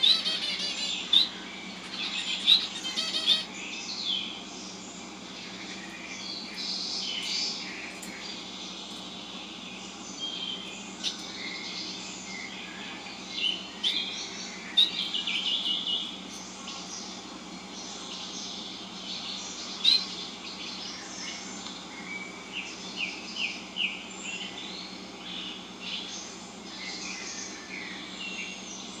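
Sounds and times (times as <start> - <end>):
recorded bird sounds: 0.0 - 29.0
small birds chirping: 0.0 - 29.0.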